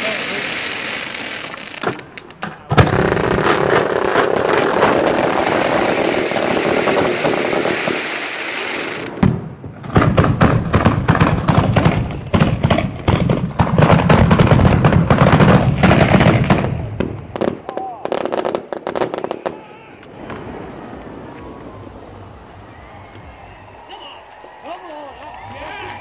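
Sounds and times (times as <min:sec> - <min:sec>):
firework bang: 0:00.0 - 0:17.7, 0:20.1 - 0:23.4
firework fountain roaring: 0:00.0 - 0:26.0
fireworks crackling and banging: 0:00.0 - 0:26.0.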